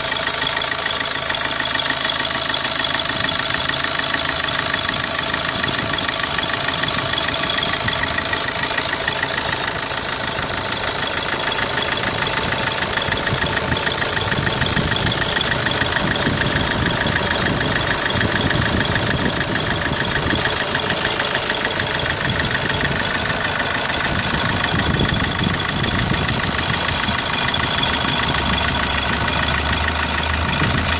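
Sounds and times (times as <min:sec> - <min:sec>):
diesel engine idling: 0:00.0 - 0:30.9
fast even engine ticking: 0:00.0 - 0:30.9.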